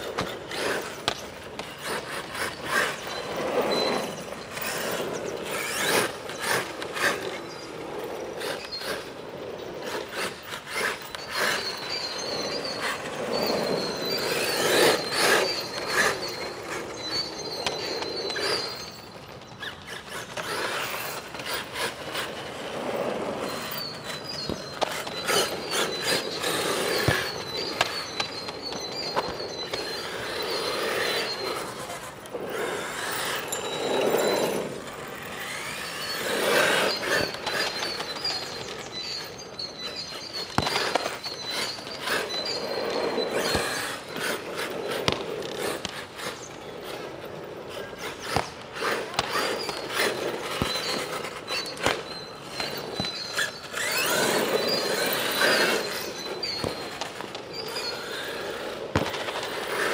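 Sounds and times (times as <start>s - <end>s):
tyres rushing over ground: 0.0s - 59.9s.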